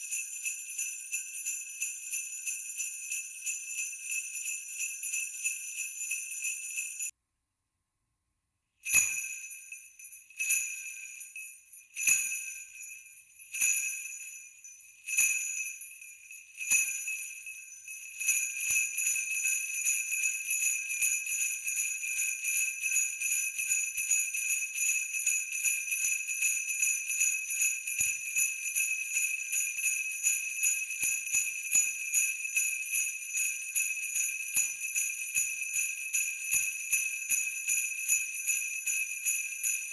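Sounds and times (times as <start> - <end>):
sleigh bells jingling: 0.0 - 7.1, 8.9 - 39.9.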